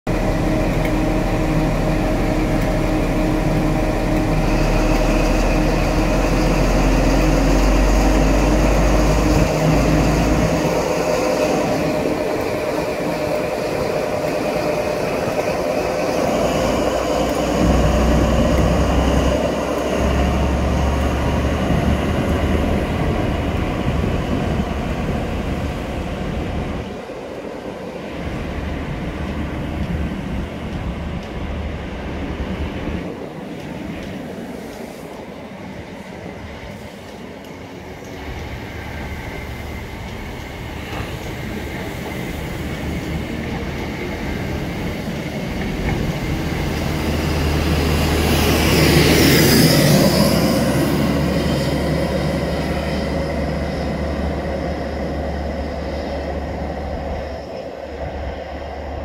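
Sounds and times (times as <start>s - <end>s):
train diesel engine drone: 0.1s - 59.0s.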